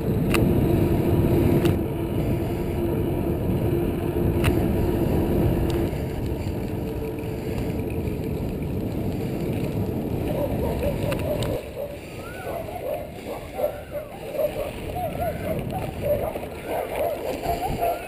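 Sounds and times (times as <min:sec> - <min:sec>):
bike clicks and rattles: 0:00.0 - 0:18.0
wind rumble: 0:00.0 - 0:18.0.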